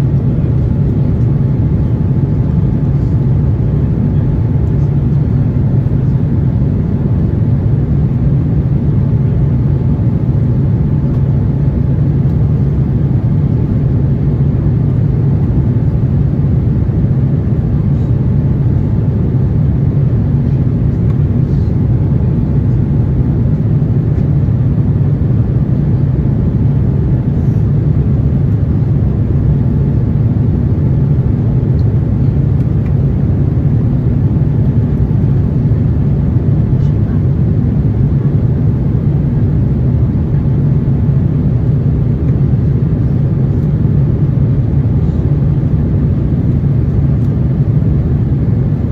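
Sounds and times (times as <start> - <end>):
airliner cabin rumble: 0.0 - 48.9.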